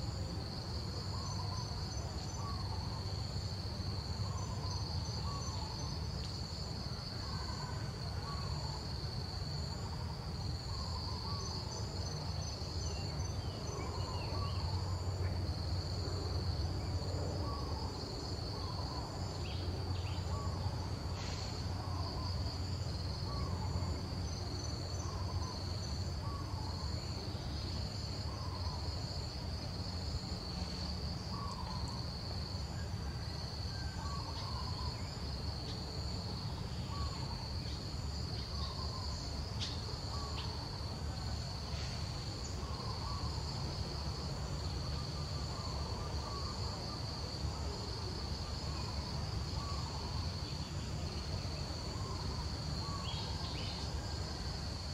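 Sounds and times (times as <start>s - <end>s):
insect chorus droning: 0.0s - 54.9s.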